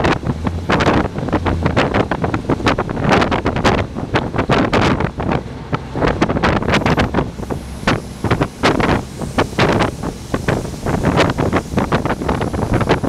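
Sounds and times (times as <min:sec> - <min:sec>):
train running rumble: 0:00.0 - 0:13.0
wind buffeting microphone: 0:00.0 - 0:13.0.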